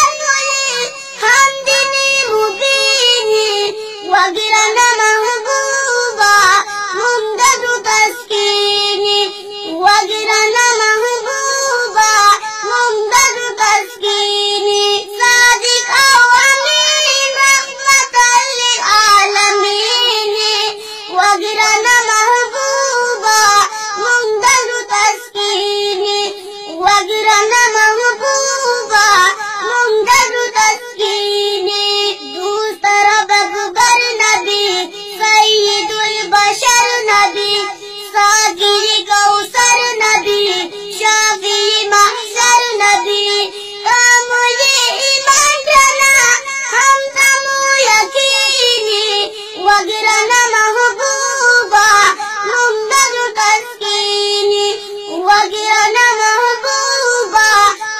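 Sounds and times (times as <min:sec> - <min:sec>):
child singing: 0:00.0 - 0:57.9.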